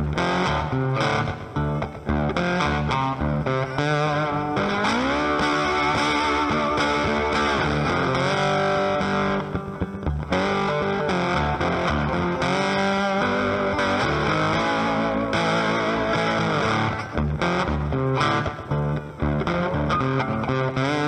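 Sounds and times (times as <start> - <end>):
rock music with distorted guitar: 0.0 - 21.0.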